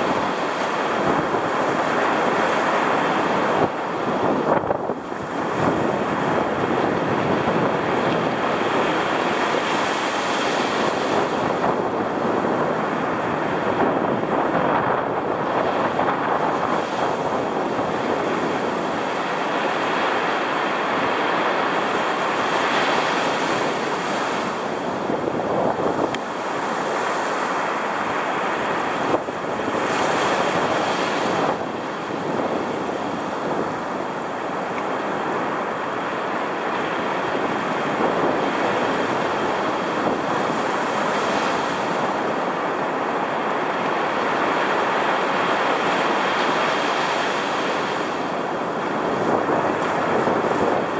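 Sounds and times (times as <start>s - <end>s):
steady wind: 0.0s - 50.9s
storm surf breaking on beach: 0.0s - 50.9s.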